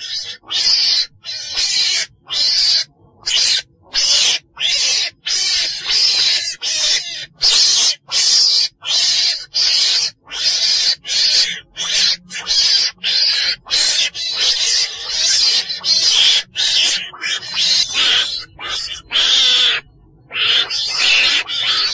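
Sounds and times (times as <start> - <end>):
weasel calls rasping high cries: 0.0 - 21.9.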